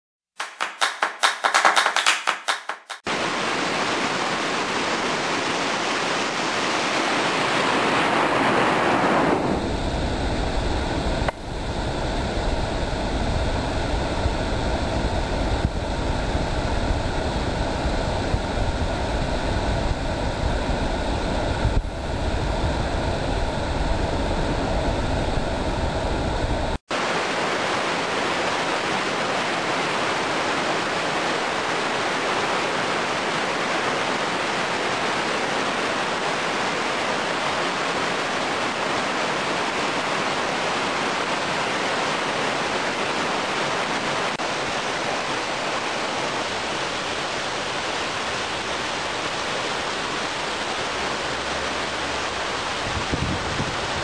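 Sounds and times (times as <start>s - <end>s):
water rushing over rocks: 3.1s - 24.1s, 26.9s - 54.0s.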